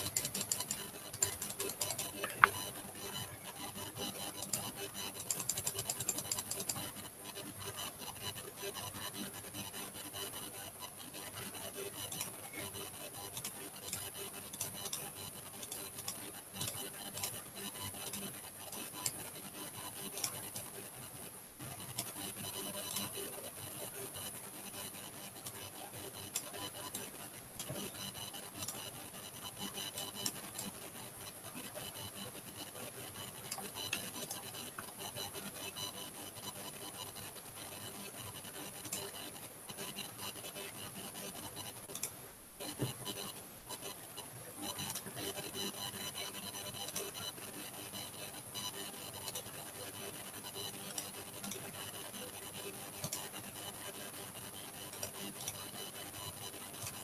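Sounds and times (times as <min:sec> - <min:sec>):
faint hiss with high whine: 0:00.0 - 0:57.0
stylus scratching on tablet: 0:00.0 - 0:57.0.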